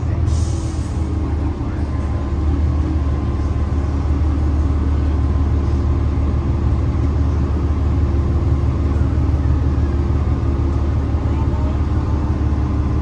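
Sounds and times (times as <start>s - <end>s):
bus drivetrain low drone: 0.0s - 13.0s.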